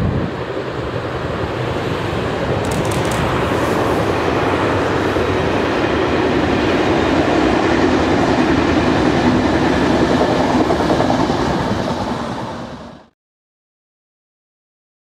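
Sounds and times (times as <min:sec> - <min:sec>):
train wheels rumbling on rail: 0:00.0 - 0:13.1.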